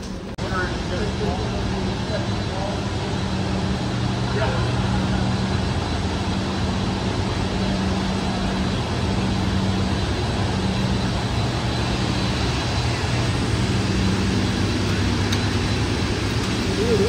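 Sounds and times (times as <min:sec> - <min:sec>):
generators humming: 0:00.0 - 0:17.0
rushing drone of machine hall: 0:00.0 - 0:17.0.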